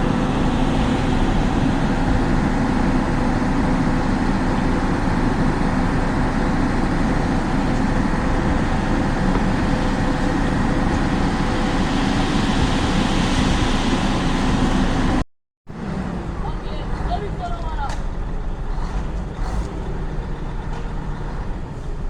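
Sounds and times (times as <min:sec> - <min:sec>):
truck diesel engine droning: 0:00.0 - 0:22.0.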